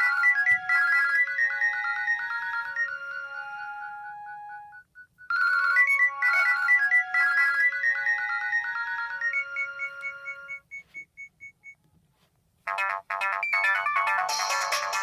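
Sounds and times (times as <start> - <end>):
electronic ringtone melody: 0.0 - 11.1, 12.7 - 15.0
ringtone with fast dense chords: 0.0 - 11.8, 12.7 - 15.0.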